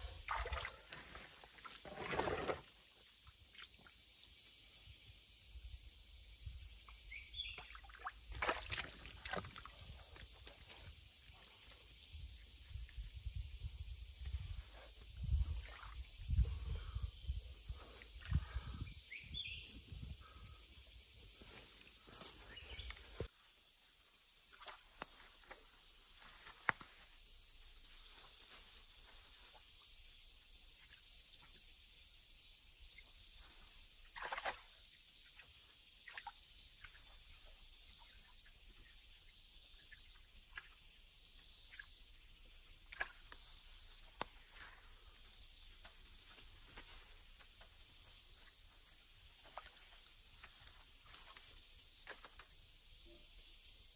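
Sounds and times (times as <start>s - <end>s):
insects chirping: 0.0s - 53.9s.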